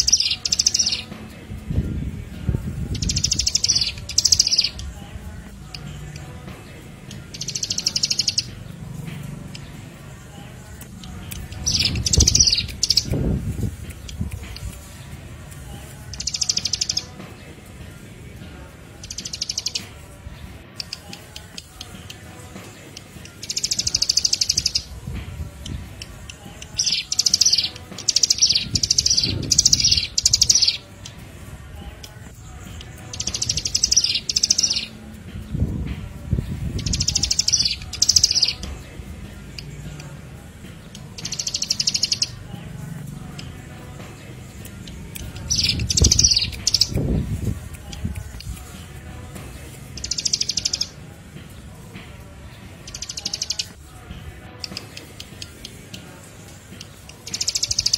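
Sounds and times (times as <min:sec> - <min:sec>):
songbird trilling chirps: 0:00.0 - 0:51.9, 0:52.5 - 0:57.9.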